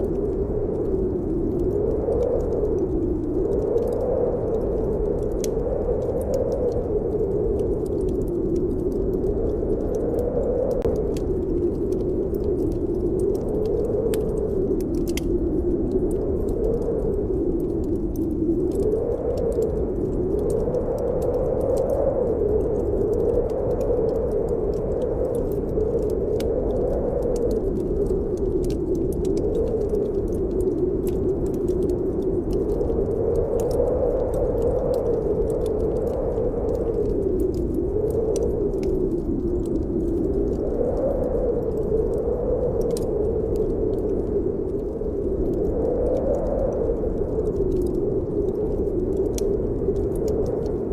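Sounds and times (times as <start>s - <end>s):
wind howling: 0.0s - 50.9s
wood fire crackling: 0.0s - 50.9s.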